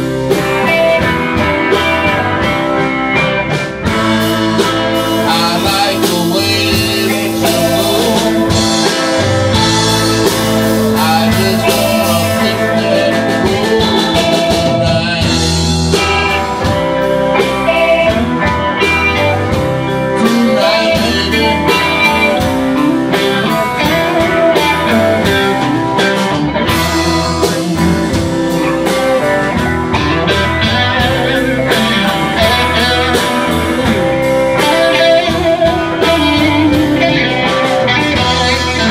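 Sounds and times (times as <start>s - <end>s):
blues band playing: 0.0s - 38.9s
drum kit beat: 0.0s - 38.9s.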